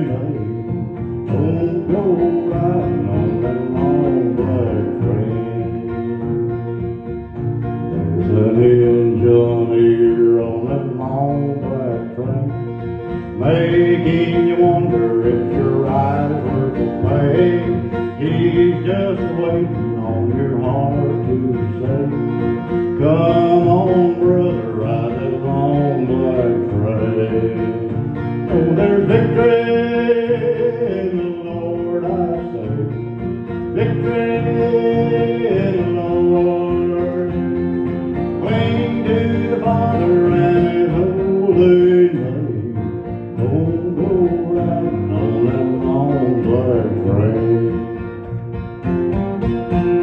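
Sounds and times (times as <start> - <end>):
man singing: 0.0 - 7.1, 7.7 - 48.4, 49.6 - 50.0
acoustic guitar: 0.0 - 50.0
electric bass: 0.0 - 50.0.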